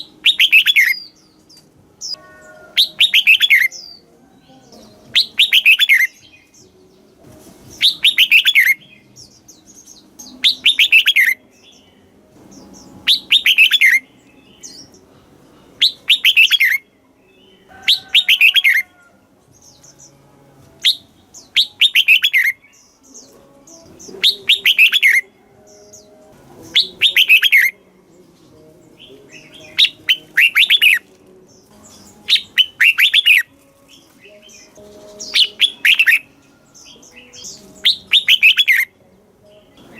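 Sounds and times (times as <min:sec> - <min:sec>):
bulbul singing warbled phrases: 0:00.0 - 0:39.9.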